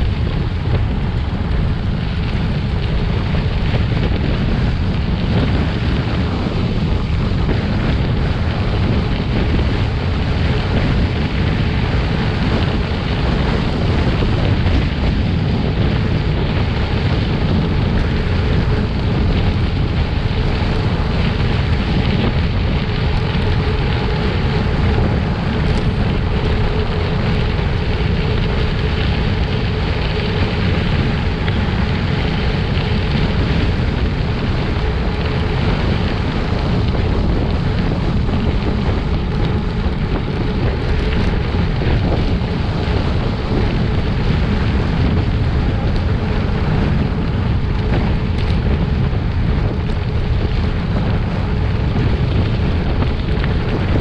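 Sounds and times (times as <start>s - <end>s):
tyres rolling on gravel: 0.0s - 54.0s
wind noise on microphone: 0.0s - 54.0s.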